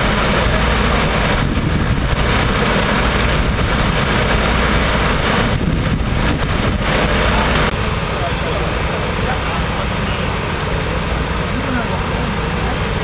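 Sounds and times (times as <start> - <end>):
pump engine running steadily: 0.0 - 13.0.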